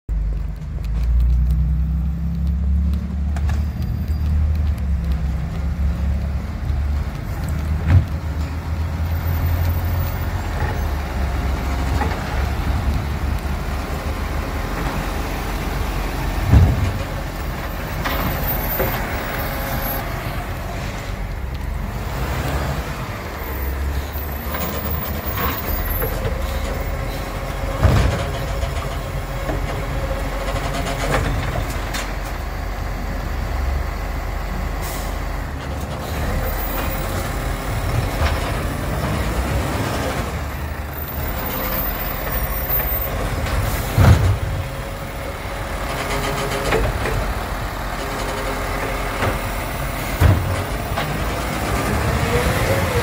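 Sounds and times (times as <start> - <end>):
garbage truck diesel engine: 0.1 - 53.0.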